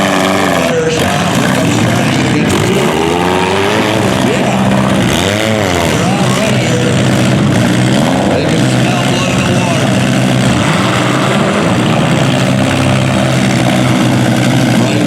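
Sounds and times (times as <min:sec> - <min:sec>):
engine revving: 0:00.0 - 0:15.0
loud car engines running: 0:00.0 - 0:15.0.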